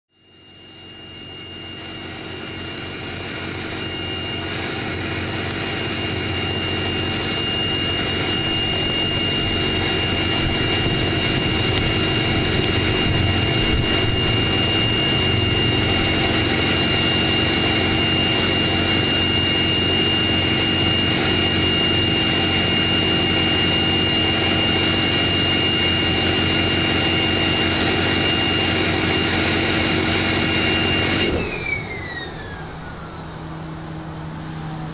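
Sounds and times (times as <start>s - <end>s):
turbocharger whistle: 0.3s - 34.9s
diesel engine idling: 1.8s - 34.9s.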